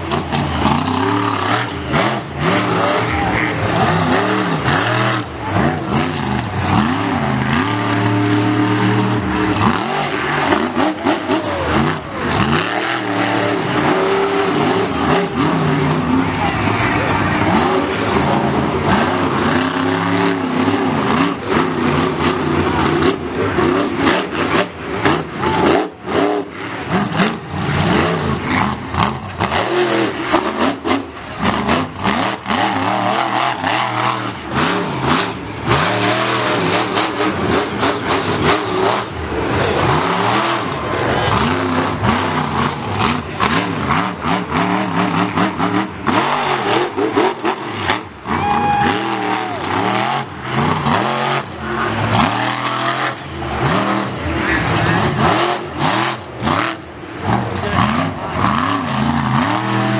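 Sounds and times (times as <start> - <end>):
racing engines revving: 0.0 - 59.9.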